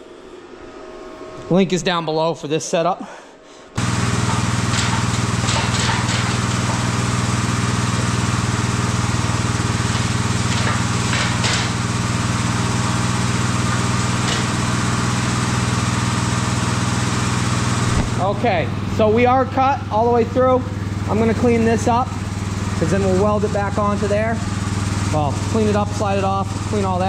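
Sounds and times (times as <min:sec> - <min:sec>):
deep electrical hum: 0:00.0 - 0:27.0.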